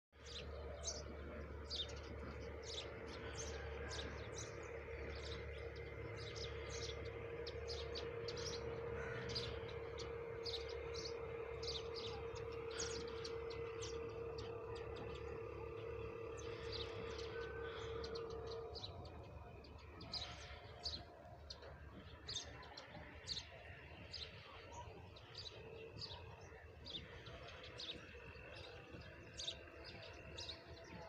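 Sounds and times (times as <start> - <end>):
small birds chirping: 0.2 - 31.0
steady low hum: 0.2 - 31.0.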